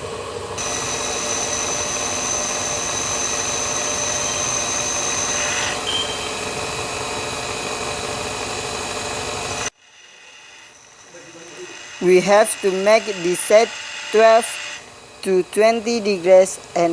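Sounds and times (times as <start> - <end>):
bench grinder grinding tool bit: 0.6 - 16.9.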